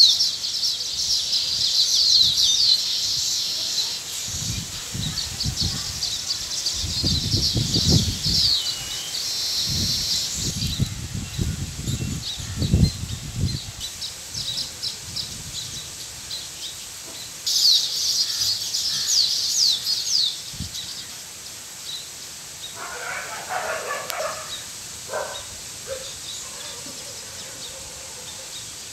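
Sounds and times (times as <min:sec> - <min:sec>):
weaver birds chattering: 0:00.0 - 0:28.9.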